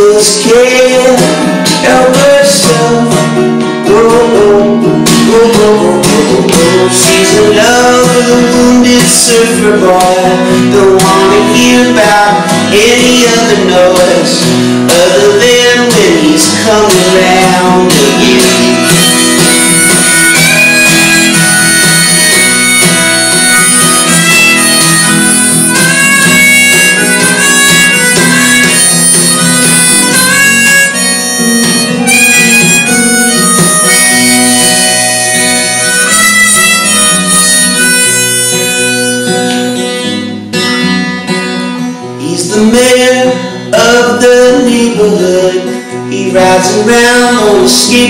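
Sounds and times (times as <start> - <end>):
harmonica playing: 0.0 - 42.1
strummed acoustic guitar: 0.0 - 48.0.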